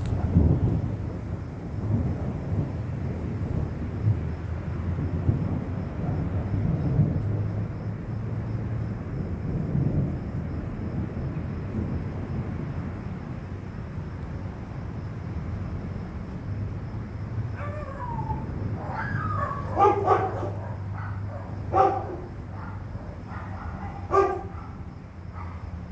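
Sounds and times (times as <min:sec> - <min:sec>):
low rolling thunder: 0:00.0 - 0:25.9.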